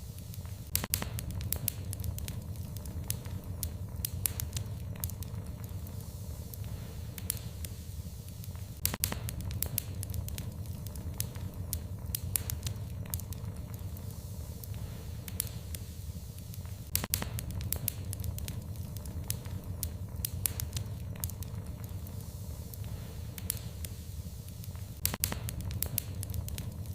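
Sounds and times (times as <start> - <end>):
fireplace fire crackling and popping: 0.0 - 26.9
low rumble of flames: 0.0 - 26.9.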